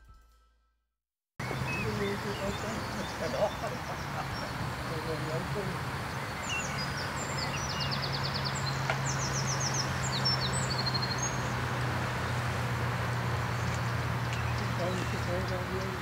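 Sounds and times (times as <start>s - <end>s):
small birds chirping: 1.4s - 16.0s.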